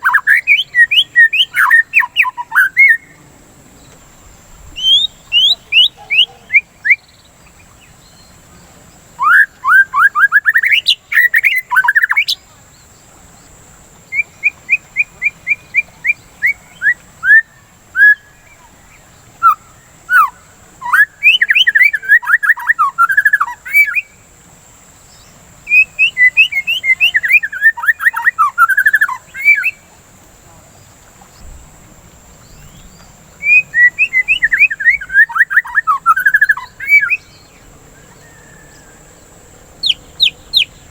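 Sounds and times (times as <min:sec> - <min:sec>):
bird singing whistled notes: 0:00.0 - 0:03.2, 0:03.8 - 0:24.2, 0:25.1 - 0:29.9, 0:31.2 - 0:40.9.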